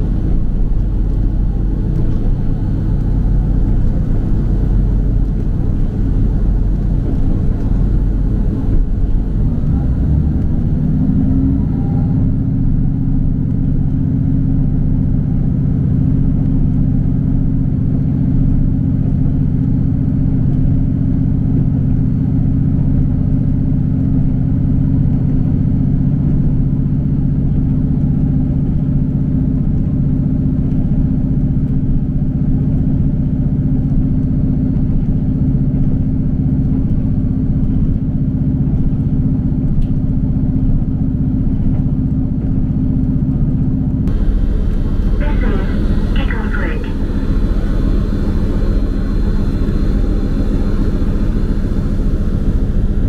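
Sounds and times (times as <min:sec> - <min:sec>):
train rumbling on rails: 0:00.0 - 0:53.0.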